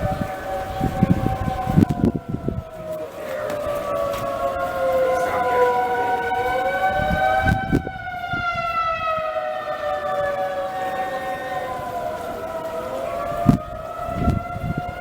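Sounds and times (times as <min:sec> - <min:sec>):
warning sirens wailing: 0:00.0 - 0:15.0.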